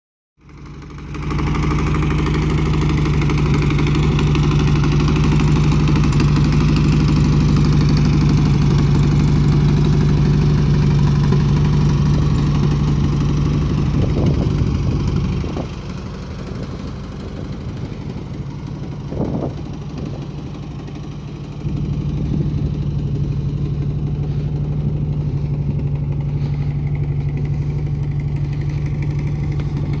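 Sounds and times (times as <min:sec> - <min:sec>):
car engine idling: 0:00.4 - 0:30.0.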